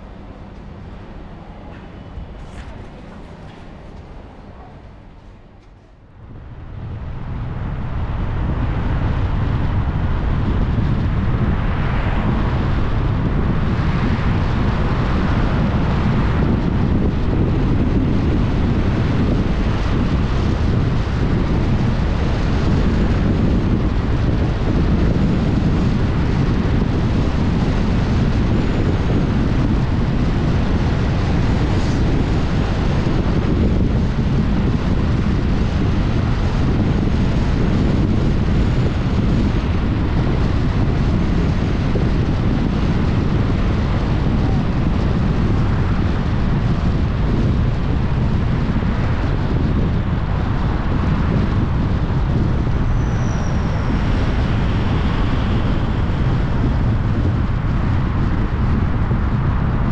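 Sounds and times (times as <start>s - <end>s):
road noise: 0.0s - 59.9s
wind rumbling on microphone: 0.0s - 59.9s.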